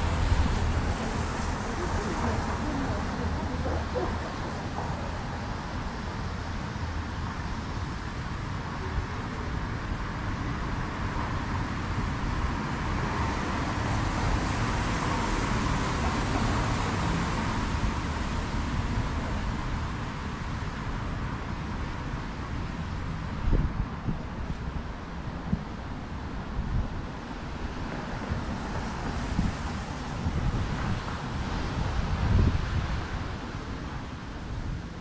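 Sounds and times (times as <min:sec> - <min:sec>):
passing cars: 0:00.0 - 0:35.0.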